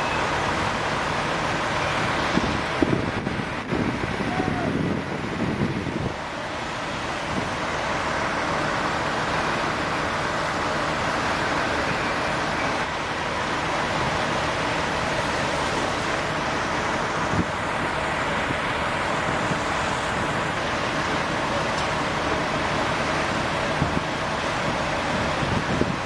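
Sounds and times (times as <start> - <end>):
fire hoses spraying water: 0.0 - 26.0
low rumble of engines: 0.0 - 26.0.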